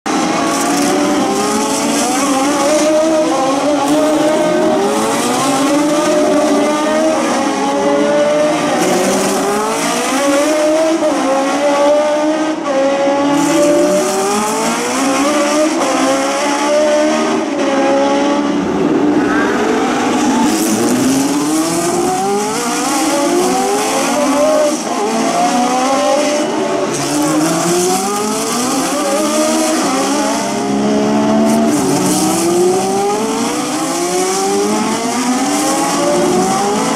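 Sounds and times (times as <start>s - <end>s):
racing car engines: 0.0s - 36.9s.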